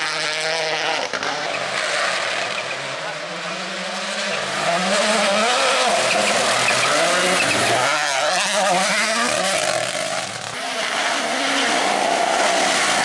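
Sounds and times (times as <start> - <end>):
rally car engine revving: 0.0 - 13.0
tyre and road noise: 0.0 - 13.0.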